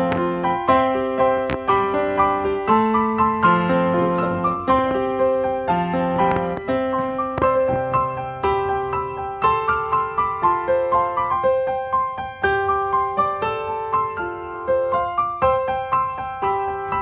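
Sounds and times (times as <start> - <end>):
slow calm piano melody: 0.0 - 17.0.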